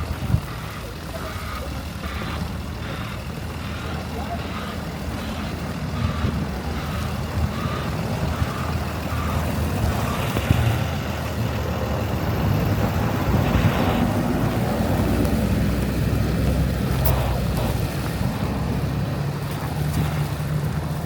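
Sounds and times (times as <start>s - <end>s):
heavy vehicle engine rumbling: 0.0s - 21.0s.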